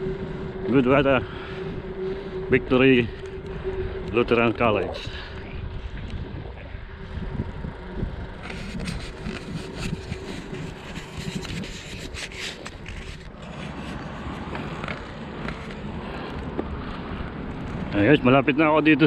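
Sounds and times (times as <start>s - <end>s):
bicycle rattling and clicking: 0.0s - 19.0s
wind rumble on microphone: 0.0s - 19.0s.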